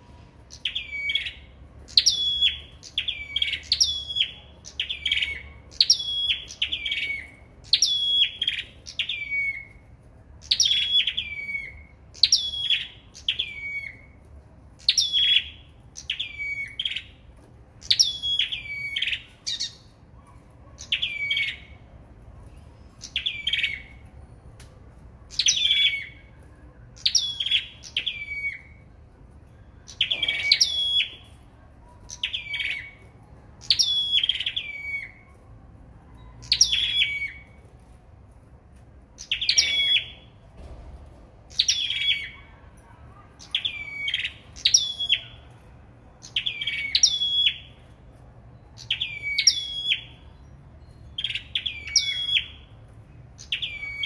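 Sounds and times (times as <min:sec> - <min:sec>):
songbirds singing: 0:00.1 - 0:38.0, 0:38.7 - 0:54.0.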